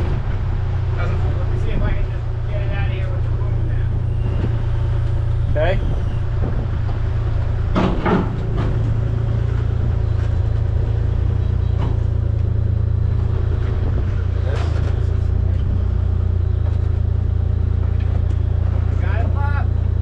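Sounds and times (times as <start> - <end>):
heavy machine engine droning: 0.0 - 20.0.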